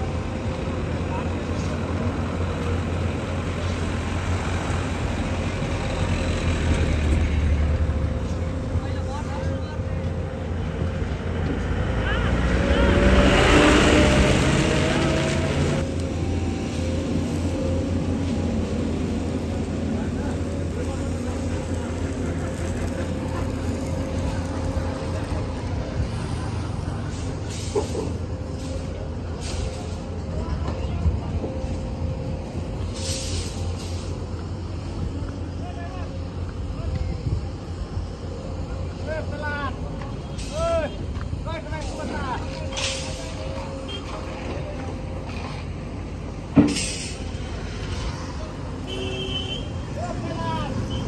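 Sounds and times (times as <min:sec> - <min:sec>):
vehicle engines rumbling: 0:00.0 - 0:51.0.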